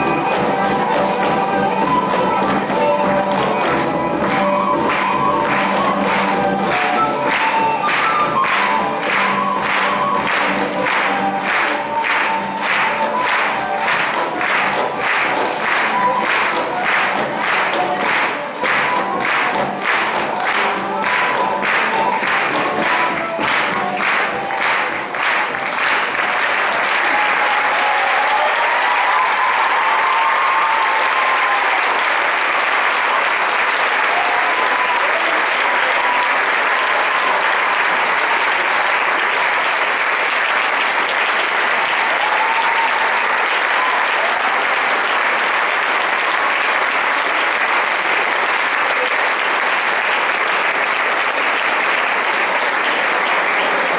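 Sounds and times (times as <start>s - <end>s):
audience applauding: 0.0s - 53.9s.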